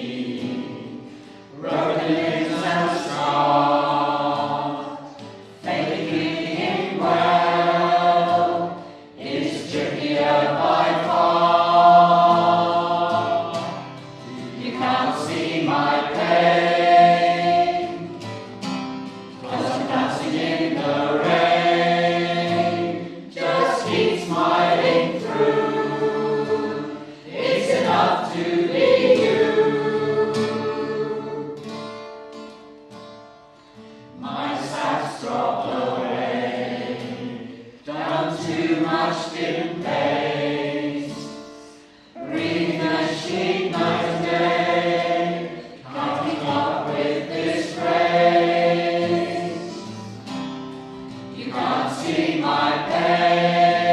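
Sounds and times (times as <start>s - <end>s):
choir singing slow song: 0.0s - 31.8s, 34.1s - 53.9s.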